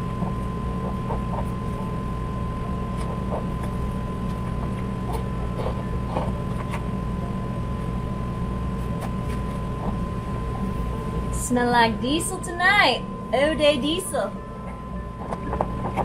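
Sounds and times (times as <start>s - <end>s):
high-pitched whine: 0.0s - 16.0s
machinery hum: 0.0s - 16.0s.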